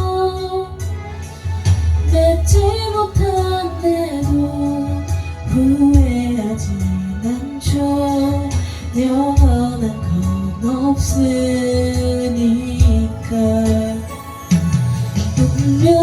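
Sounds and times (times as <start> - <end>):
karaoke backing track: 0.0 - 16.0
woman singing: 0.0 - 16.0.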